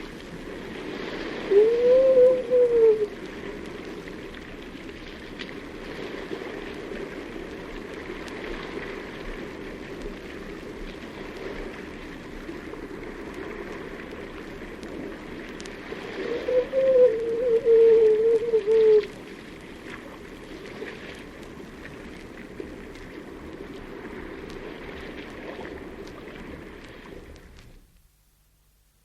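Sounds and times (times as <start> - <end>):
water and surf wash: 0.0 - 28.0
faint clicks and drips: 3.2 - 16.2, 17.1 - 28.1.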